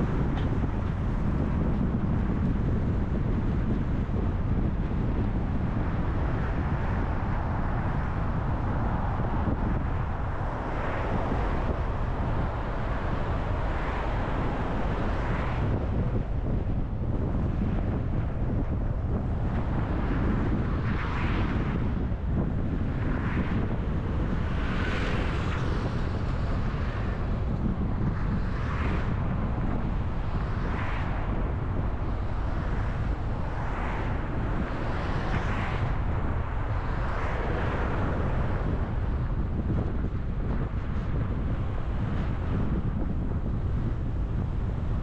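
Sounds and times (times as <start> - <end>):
road and engine rumble: 0.0 - 45.0.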